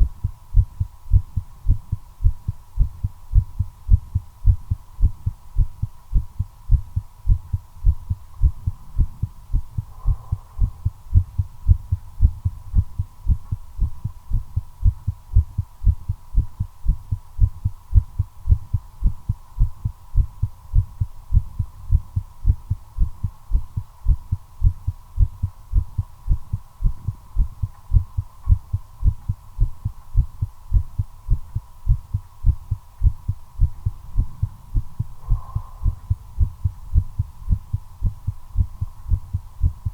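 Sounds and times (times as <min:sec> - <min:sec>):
faint high hum: 0:00.0 - 0:39.9
heartbeat thumps: 0:00.0 - 0:39.9.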